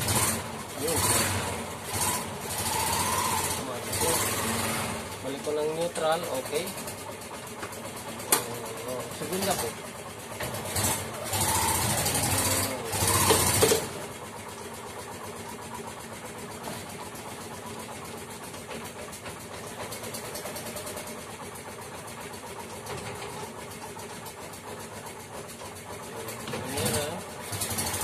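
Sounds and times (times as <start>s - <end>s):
three-wheeler engine running: 0.0s - 28.0s.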